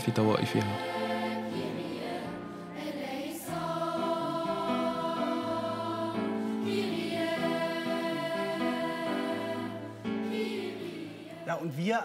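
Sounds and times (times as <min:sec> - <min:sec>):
choir singing held chords: 0:00.0 - 0:11.6.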